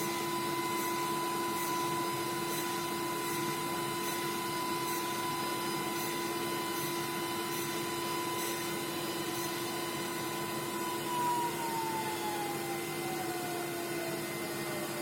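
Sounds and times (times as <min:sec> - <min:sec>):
drilling machine spindle whine: 0:00.0 - 0:15.0.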